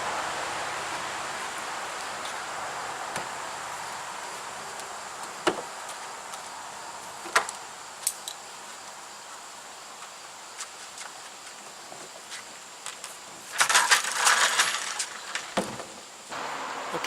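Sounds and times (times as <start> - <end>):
background rush: 0.0 - 10.6, 12.6 - 17.0.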